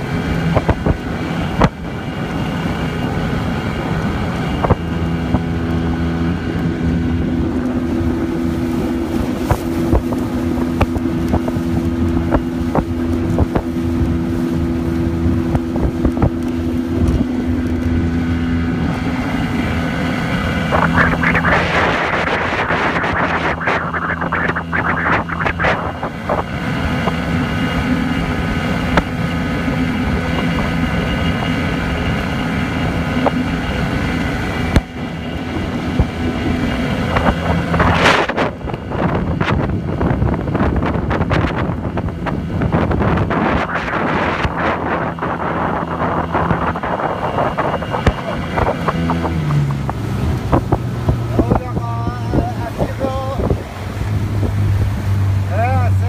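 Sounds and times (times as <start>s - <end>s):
motorboat engine running: 0.0s - 56.0s
rushing noise with crackles: 0.0s - 56.0s
wind on microphone: 0.0s - 56.0s.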